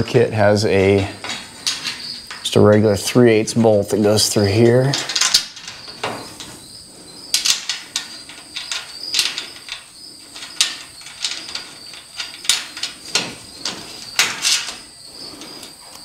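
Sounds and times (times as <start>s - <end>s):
metal parts clinking and rattling: 0.8s - 16.0s.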